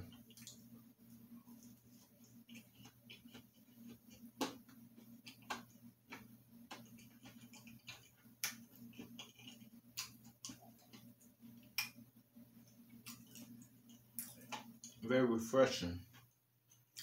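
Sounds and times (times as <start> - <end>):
person chewing cookie: 0.0 - 15.0, 16.1 - 17.0.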